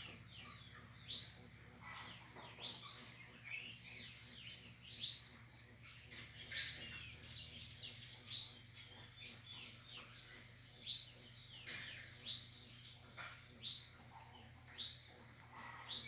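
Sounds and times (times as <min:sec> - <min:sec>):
songbirds chirping and whistling: 0:00.0 - 0:16.0.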